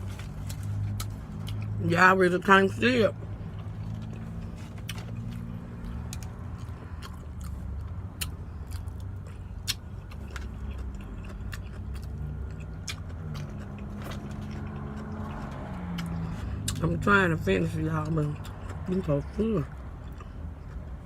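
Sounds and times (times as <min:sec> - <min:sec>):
chewing and lip-smacking: 0:00.0 - 0:21.0
low engine hum: 0:00.0 - 0:21.0.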